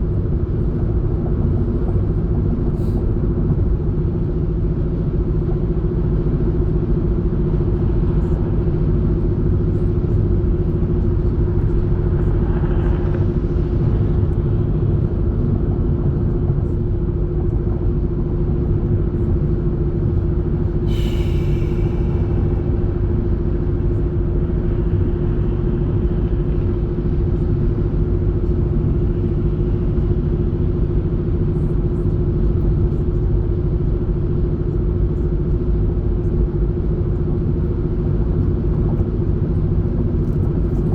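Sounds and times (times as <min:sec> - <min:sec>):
car road noise rumble: 0:00.0 - 0:40.9
constant hum: 0:00.0 - 0:40.9.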